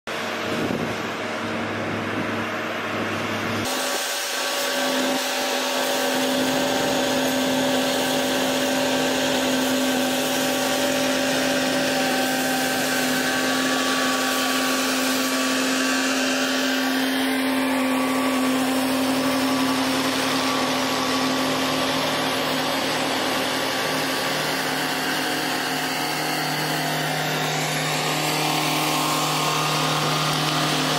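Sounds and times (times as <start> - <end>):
roller engine low hum: 0.1 - 30.9
diesel engines humming: 4.8 - 30.9.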